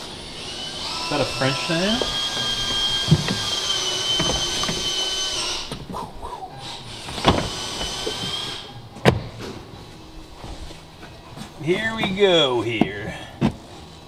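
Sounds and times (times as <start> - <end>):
high-pitched machine whine: 0.0 - 12.6.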